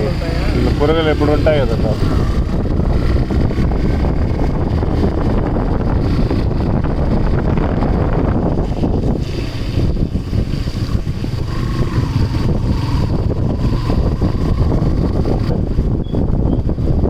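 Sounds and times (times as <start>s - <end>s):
low rushing noise: 0.0s - 17.0s
wind buffeting microphone: 0.0s - 17.0s.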